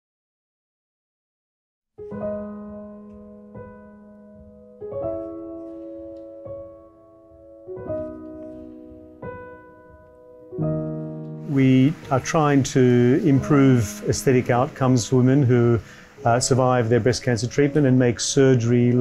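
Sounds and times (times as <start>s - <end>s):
piano chords: 2.0s - 19.0s.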